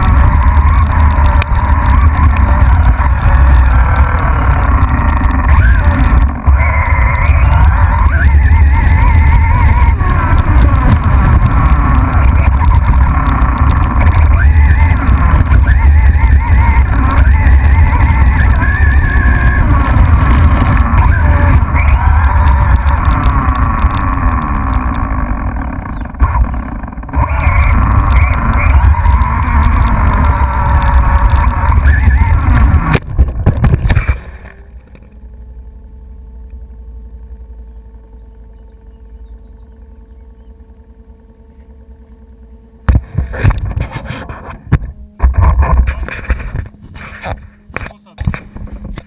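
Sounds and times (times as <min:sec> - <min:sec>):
electric motor whine: 0:00.0 - 0:49.0
wind and vibration rumble: 0:00.0 - 0:49.0.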